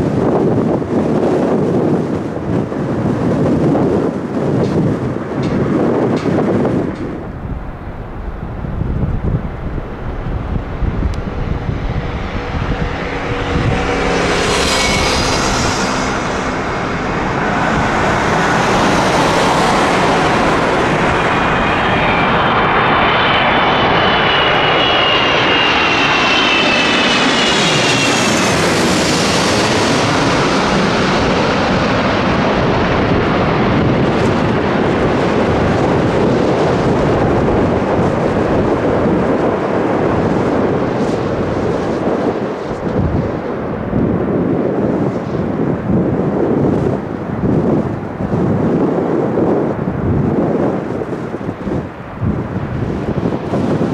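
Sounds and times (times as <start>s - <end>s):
high jet engine whine: 0.0s - 53.9s
jet engine rumble overhead: 0.0s - 53.9s.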